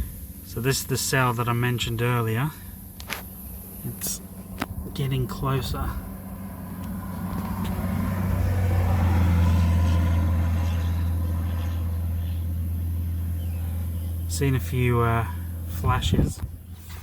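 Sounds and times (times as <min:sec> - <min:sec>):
road vehicle passing by: 0:02.8 - 0:17.0.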